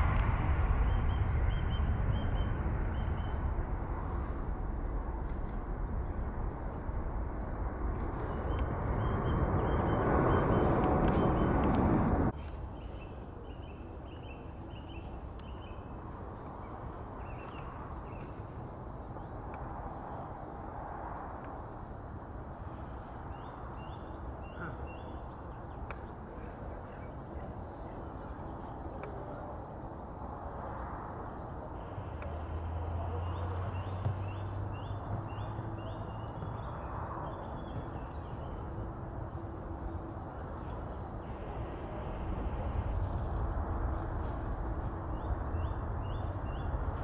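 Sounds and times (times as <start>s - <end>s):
outdoor background noise: 0.0s - 47.0s
birds chirping: 0.1s - 6.8s, 7.4s - 19.5s, 22.9s - 29.3s, 31.3s - 47.0s.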